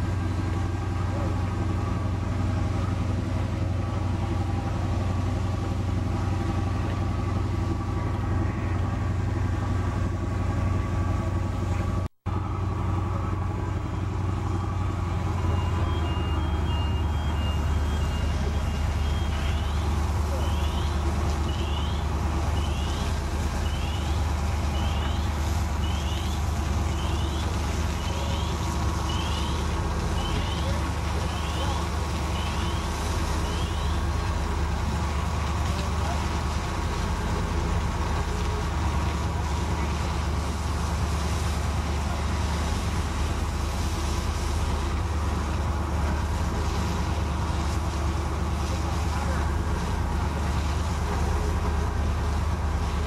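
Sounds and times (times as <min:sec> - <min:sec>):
constant rushing hiss: 0:00.0 - 0:53.0
fire engine droning: 0:00.0 - 0:53.0.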